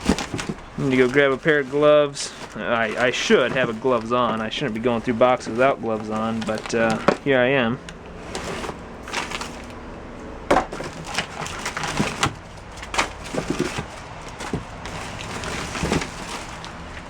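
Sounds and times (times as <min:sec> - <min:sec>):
objects knocking and clacking: 0:00.0 - 0:09.8, 0:10.5 - 0:17.0
papers rustling: 0:00.0 - 0:17.0.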